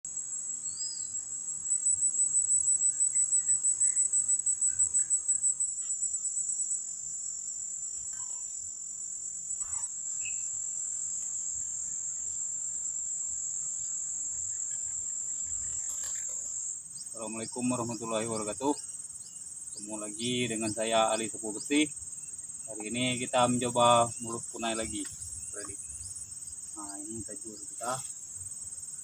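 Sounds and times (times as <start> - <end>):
insects buzzing: 0.1 - 29.0.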